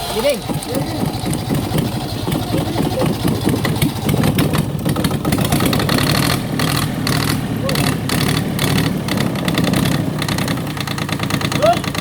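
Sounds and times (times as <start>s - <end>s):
diesel engine starting and running: 0.0s - 12.0s.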